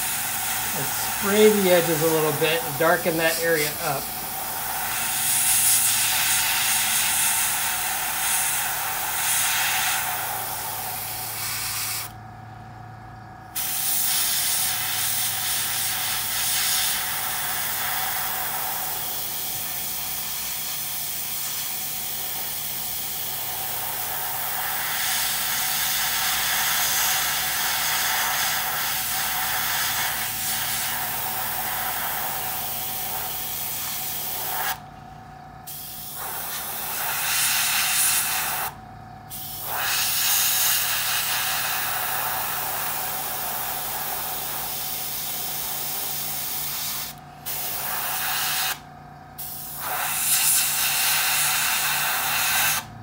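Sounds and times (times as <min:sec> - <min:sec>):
airbrush spraying paint: 0:00.0 - 0:12.2, 0:13.6 - 0:34.8, 0:35.7 - 0:52.9.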